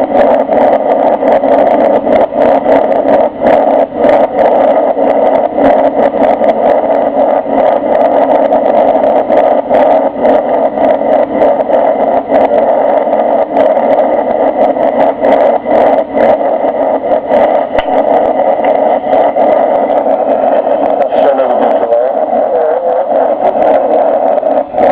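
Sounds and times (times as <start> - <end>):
jet engine and airflow rush: 0.0 - 24.9.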